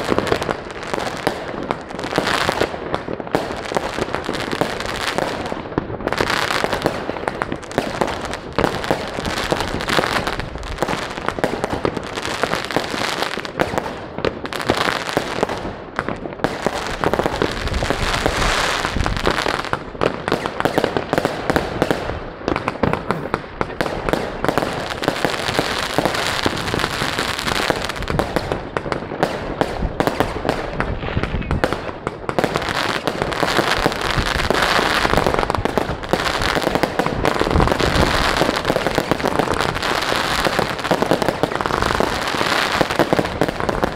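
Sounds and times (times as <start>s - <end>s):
fireworks and firecrackers crackling: 0.0s - 43.9s.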